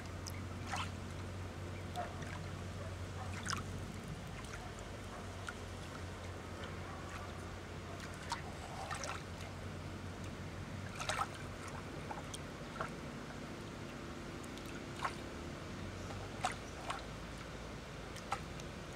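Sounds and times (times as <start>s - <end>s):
water lapping and splashing: 0.0s - 18.9s.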